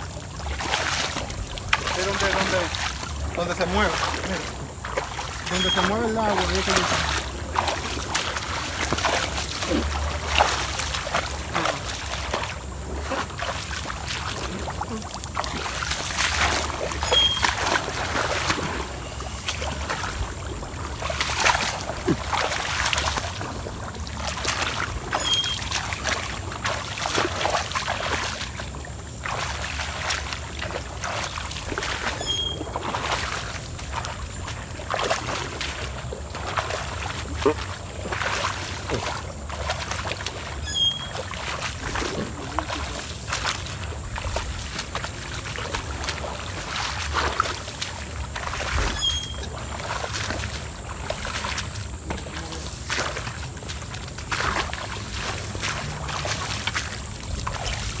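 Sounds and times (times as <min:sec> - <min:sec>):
hand net pushed through water: 0:00.0 - 0:58.0
wading through wet grass and water: 0:00.0 - 0:58.0.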